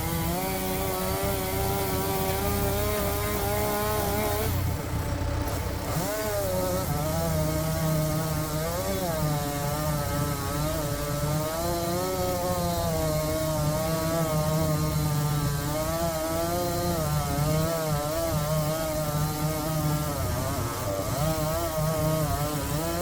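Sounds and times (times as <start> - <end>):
small engine running under load: 0.0 - 23.0.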